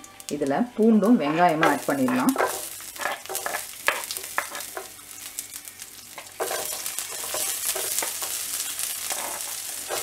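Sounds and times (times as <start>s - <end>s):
oil sizzling with frying spices: 0.0s - 10.0s.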